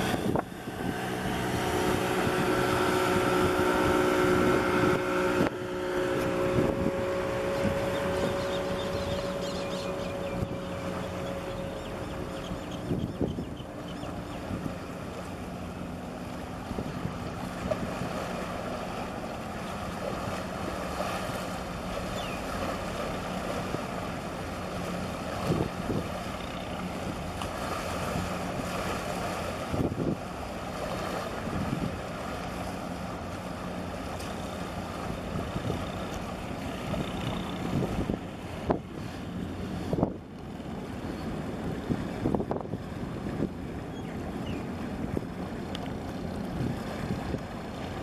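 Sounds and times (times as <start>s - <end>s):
wind buffeting microphone: 0.0s - 32.8s, 34.7s - 48.0s
ship engines low hum: 0.0s - 48.0s
small waves washing: 0.0s - 48.0s.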